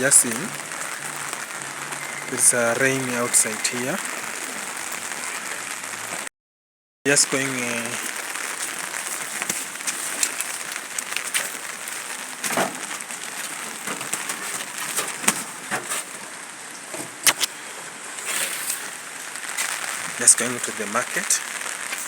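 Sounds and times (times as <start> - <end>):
rain falling: 0.0 - 6.3, 7.1 - 22.0.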